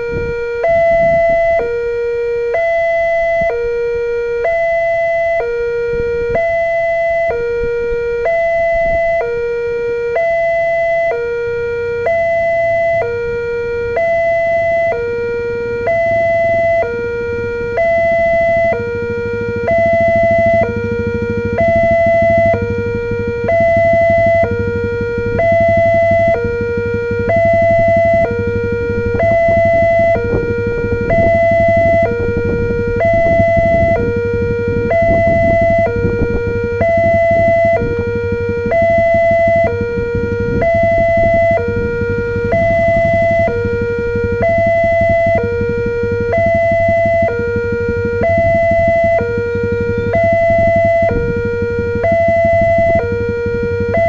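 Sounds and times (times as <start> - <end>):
level crossing warning siren: 0.0 - 54.0
low steady hum: 0.0 - 54.0.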